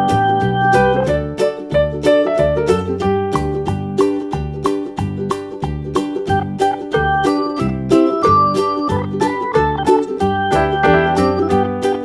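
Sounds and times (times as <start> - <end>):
bright upbeat background music: 0.0 - 12.0.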